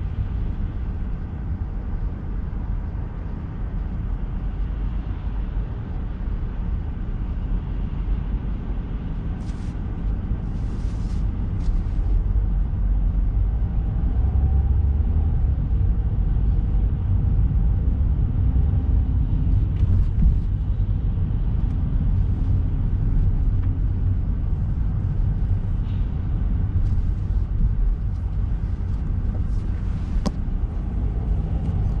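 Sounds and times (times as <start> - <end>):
car driving rumble: 0.0 - 32.0.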